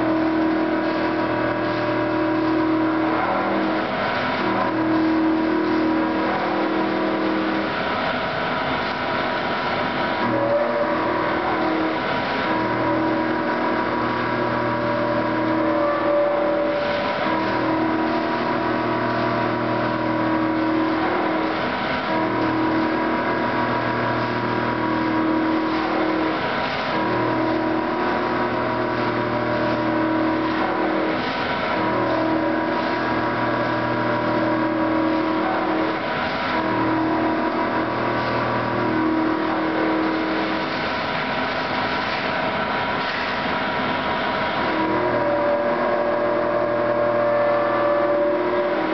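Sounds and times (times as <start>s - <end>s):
lathe machine hum: 0.0s - 48.9s.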